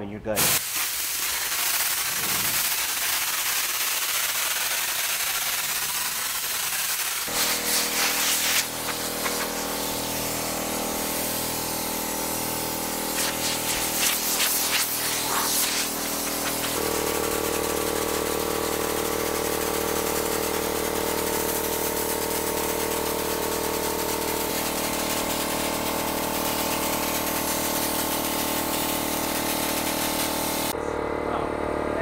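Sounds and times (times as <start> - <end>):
hiss of air: 0.4 - 30.7
air compressor motor running: 0.4 - 32.0.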